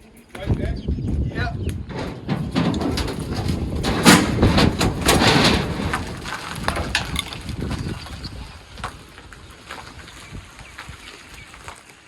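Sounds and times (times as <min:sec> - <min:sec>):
truck wheels rolling with clunks: 0:01.6 - 0:11.9.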